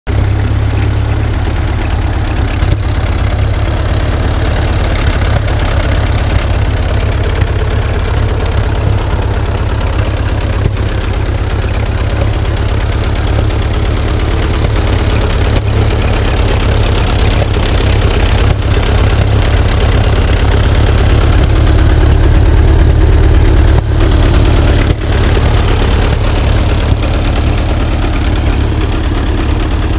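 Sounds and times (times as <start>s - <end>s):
old engine running deep: 0.1s - 29.9s.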